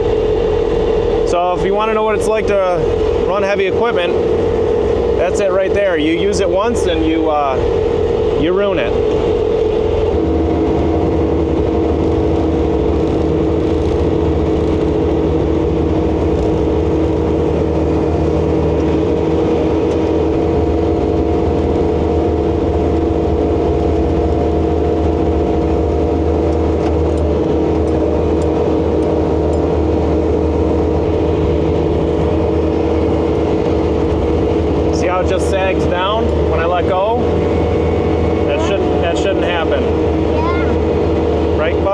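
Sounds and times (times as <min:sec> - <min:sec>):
diesel engine running: 0:00.0 - 0:41.9
steady whine: 0:00.0 - 0:41.9.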